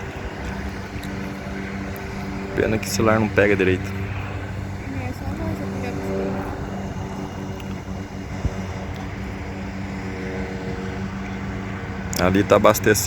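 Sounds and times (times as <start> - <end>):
propeller aircraft engine drone: 0.0 - 13.0
wind on microphone: 0.0 - 13.0.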